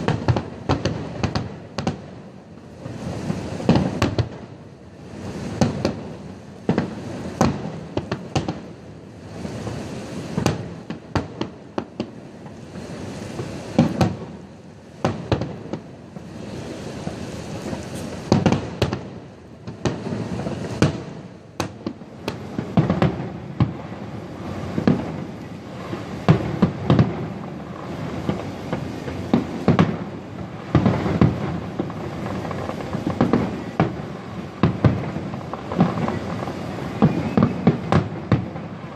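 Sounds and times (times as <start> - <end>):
fireworks exploding: 0.0 - 38.9.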